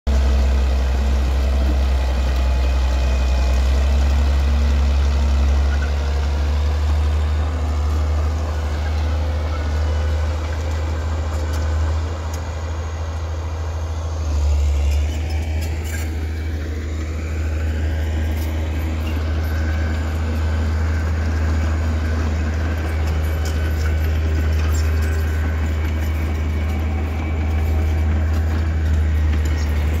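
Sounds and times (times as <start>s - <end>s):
heavy diesel engines rumbling: 0.1s - 30.0s.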